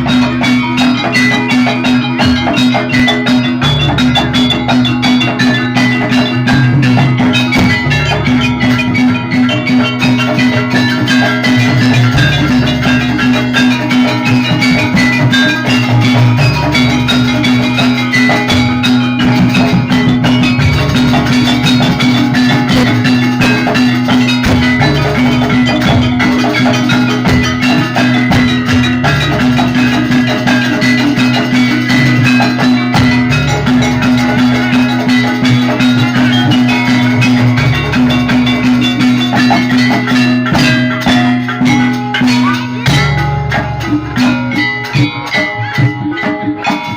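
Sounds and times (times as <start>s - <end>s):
gamelan music: 0.0s - 46.9s.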